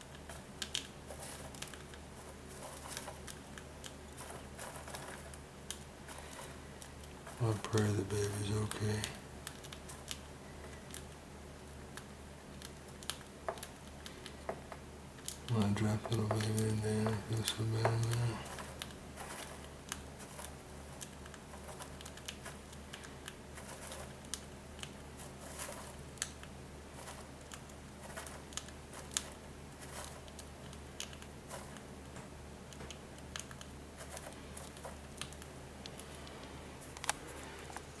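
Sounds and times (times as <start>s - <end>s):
faint clicks and rustles: 0.0s - 38.0s
steady low hum: 0.0s - 38.0s.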